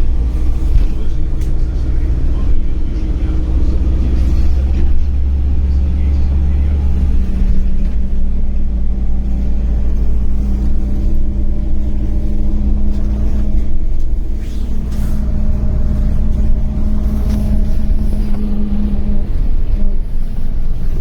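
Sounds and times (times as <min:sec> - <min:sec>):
bus engine rumbling from inside: 0:00.0 - 0:21.0.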